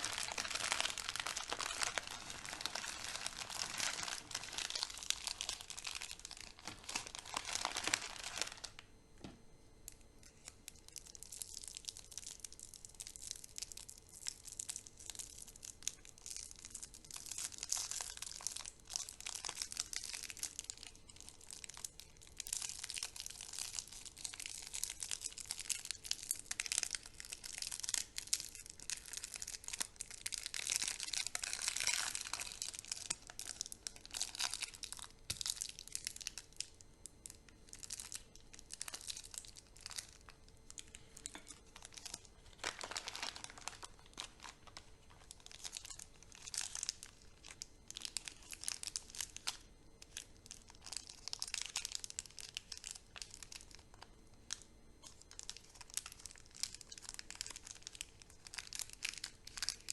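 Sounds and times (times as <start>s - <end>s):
candy wrappers crinkling: 0.0s - 8.9s, 9.9s - 59.9s.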